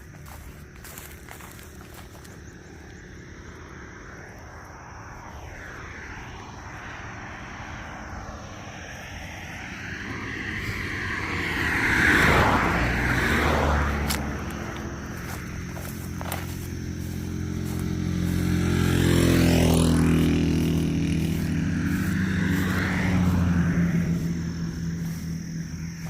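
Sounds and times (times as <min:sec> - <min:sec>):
motor vehicle passing: 0:00.0 - 0:26.0.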